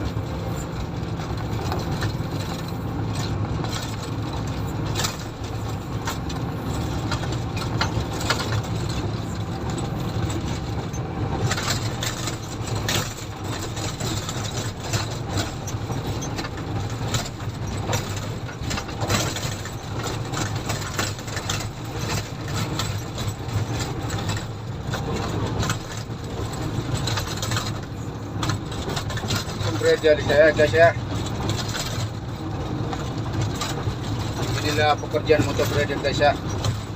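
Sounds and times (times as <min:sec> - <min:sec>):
diesel engine running: 0:00.0 - 0:36.9
machine rattling and knocking: 0:00.0 - 0:36.9.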